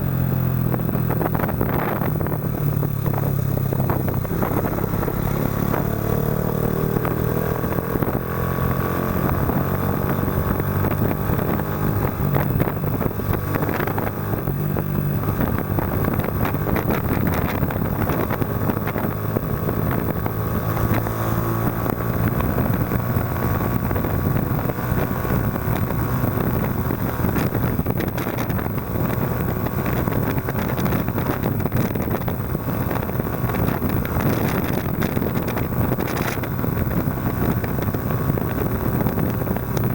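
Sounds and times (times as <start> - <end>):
motorcycle engine exhaust note: 0.0 - 39.9
wind on microphone: 0.0 - 39.9.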